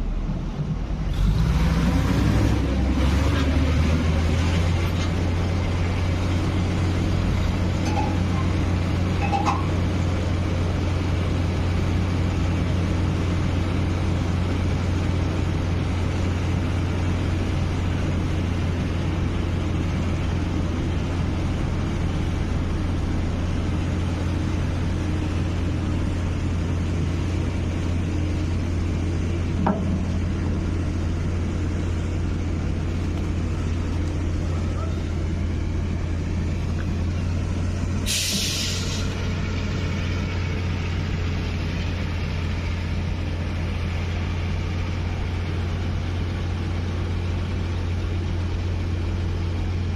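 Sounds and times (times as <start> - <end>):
large engine droning: 0.0 - 49.9.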